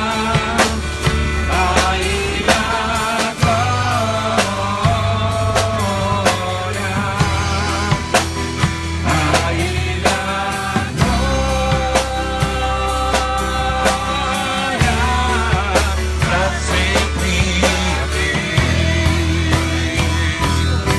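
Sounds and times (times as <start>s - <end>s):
bass held notes: 0.0s - 20.9s
drums steady beat: 0.0s - 20.9s
worship song playing loudly: 0.0s - 20.9s.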